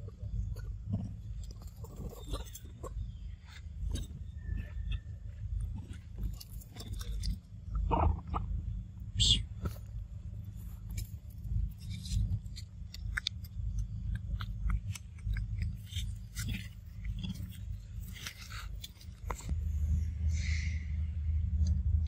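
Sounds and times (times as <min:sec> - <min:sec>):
steady low rumble: 0:00.0 - 0:22.0
monkey chewing with crunches: 0:00.2 - 0:08.2, 0:09.6 - 0:19.5.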